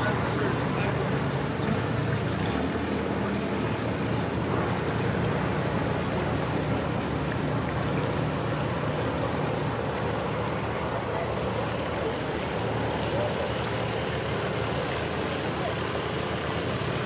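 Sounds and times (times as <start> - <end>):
boat engine humming: 0.0 - 17.0
wind: 0.0 - 17.0.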